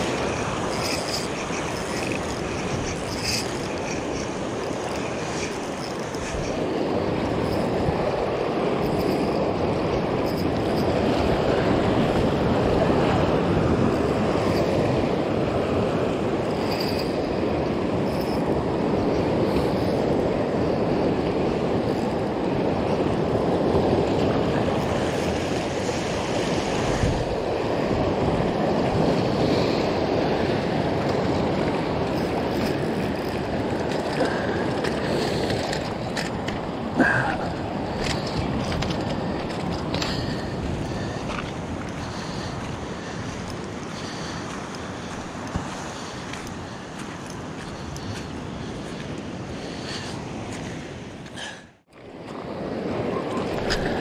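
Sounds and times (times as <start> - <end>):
surf washing over rocks: 0.0 - 54.0.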